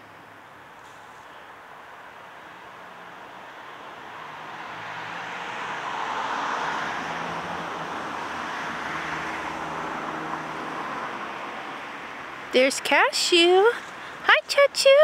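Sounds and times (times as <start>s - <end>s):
passing vehicle rushing: 0.8s - 14.4s.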